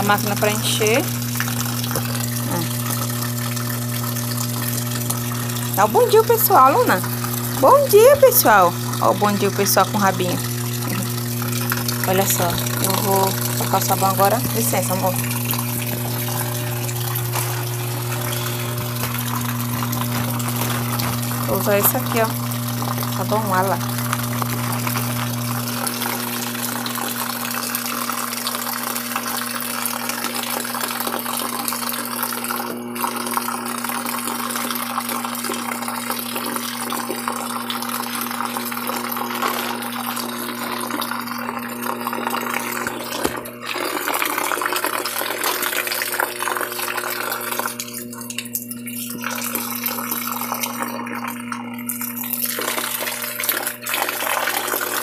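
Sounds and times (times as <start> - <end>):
water pouring into washing machine: 0.0 - 55.0.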